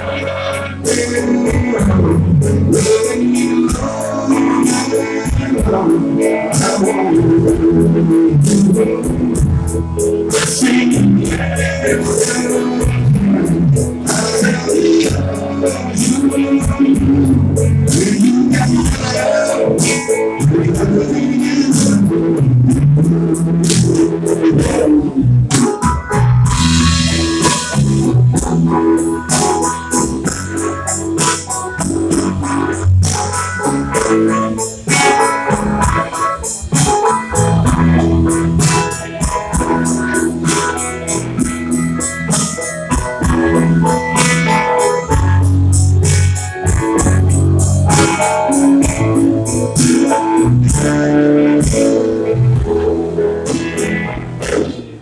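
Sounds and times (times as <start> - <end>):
bass: 0.0 - 55.0
drum kit: 0.0 - 55.0
guitar: 0.0 - 55.0
keyboard: 0.0 - 55.0.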